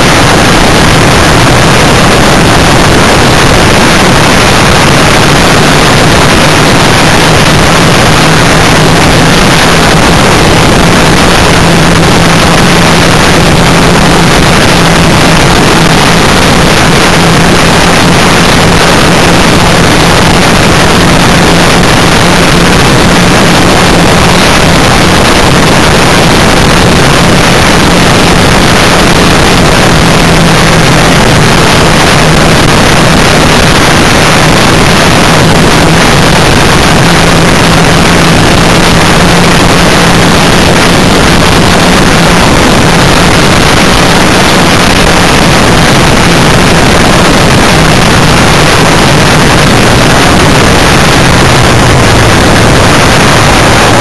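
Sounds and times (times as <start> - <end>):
vehicle engine running: 0.0 - 54.0
wind noise on microphone: 0.0 - 54.0.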